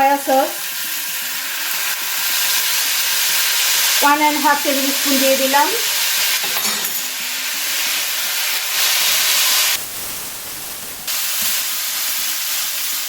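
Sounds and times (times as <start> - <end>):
rice and vegetables sizzling in pan: 0.0 - 13.0.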